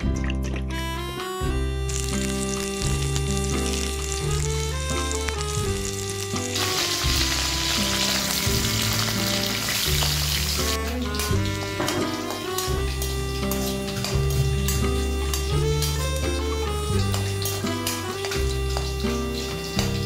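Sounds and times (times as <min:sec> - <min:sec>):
background music with bass: 0:00.0 - 0:20.0
leaves and garlic sizzling in oil: 0:01.9 - 0:20.0.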